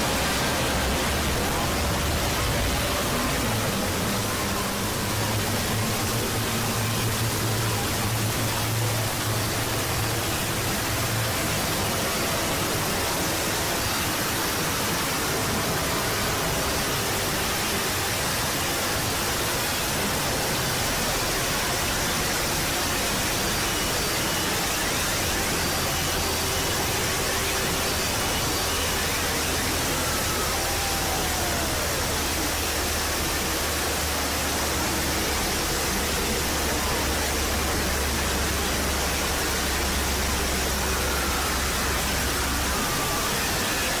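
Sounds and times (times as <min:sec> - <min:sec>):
loud static hiss: 0:00.0 - 0:44.0.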